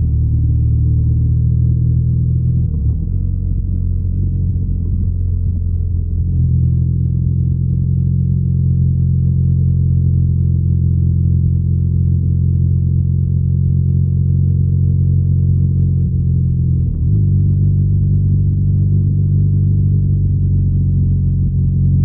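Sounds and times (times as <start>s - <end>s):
motorcycle engine and exhaust: 0.0s - 22.0s.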